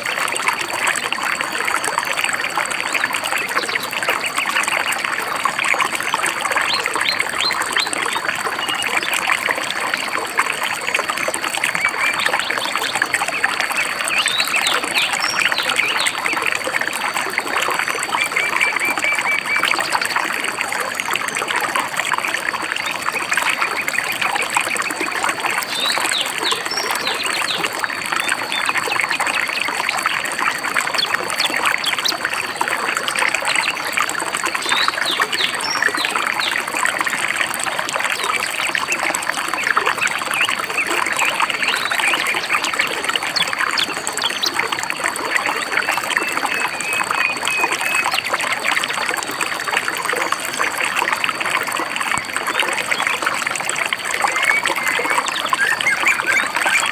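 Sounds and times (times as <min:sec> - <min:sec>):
stream trickling over rocks: 0:00.0 - 0:56.9.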